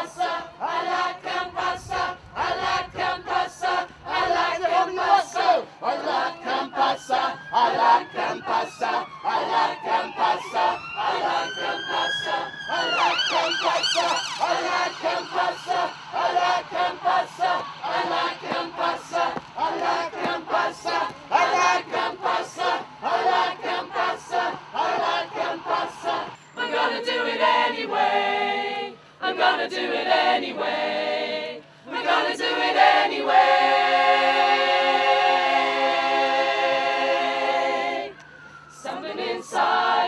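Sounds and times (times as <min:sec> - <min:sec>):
choir singing a cappella: 0:00.0 - 0:40.0.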